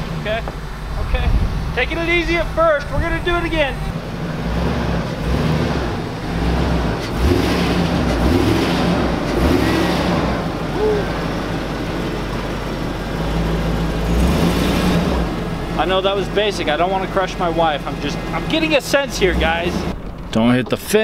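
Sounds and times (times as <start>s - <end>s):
suv engine running under load: 0.0s - 21.0s.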